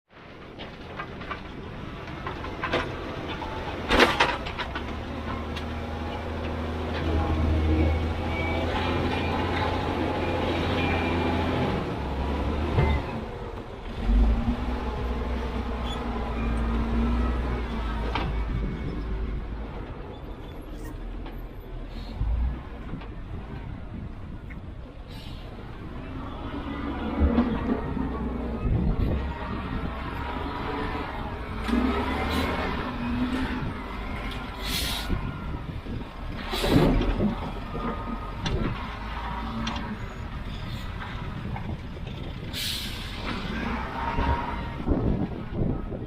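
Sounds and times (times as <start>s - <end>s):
diesel engine droning: 0.9s - 46.0s.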